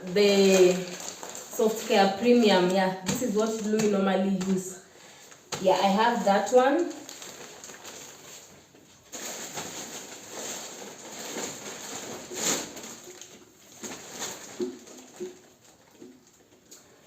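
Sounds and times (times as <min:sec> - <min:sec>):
plastic packaging rustling: 0:00.0 - 0:17.0.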